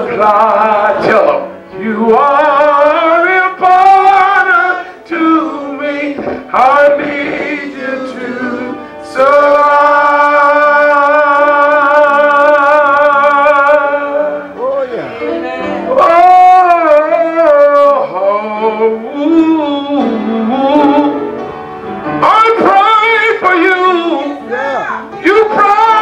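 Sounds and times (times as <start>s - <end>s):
person singing with vibrato: 0.0s - 21.4s, 22.2s - 26.0s.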